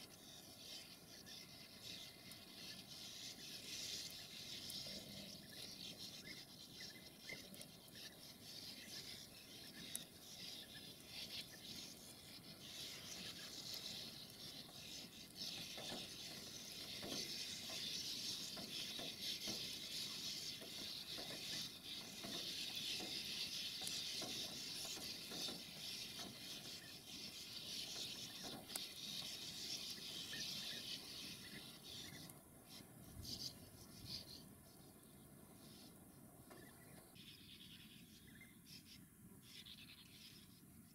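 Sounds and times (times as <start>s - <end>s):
birds twittering: 0.0s - 40.9s.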